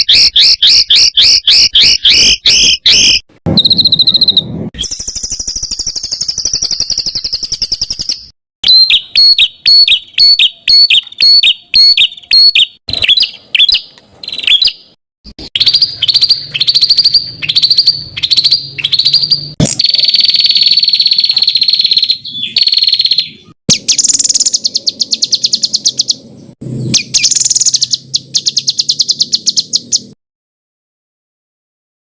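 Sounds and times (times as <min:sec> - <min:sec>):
songbird singing: 0:00.0 - 0:30.2.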